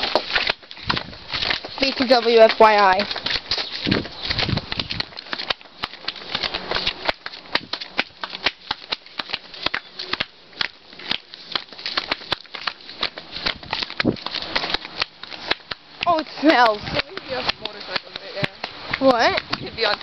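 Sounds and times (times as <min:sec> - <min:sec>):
flip-flop footsteps on concrete: 0:00.0 - 0:20.0.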